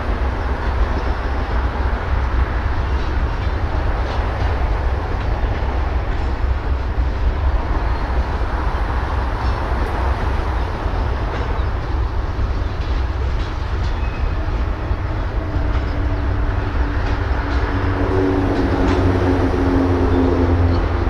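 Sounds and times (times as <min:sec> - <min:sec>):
locomotive engine hum: 0:00.0 - 0:21.0
train low rumble: 0:00.0 - 0:21.0.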